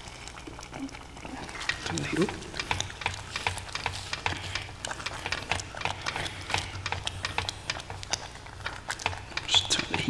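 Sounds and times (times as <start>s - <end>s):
spoon stirring thick food in pot: 0.0s - 10.0s.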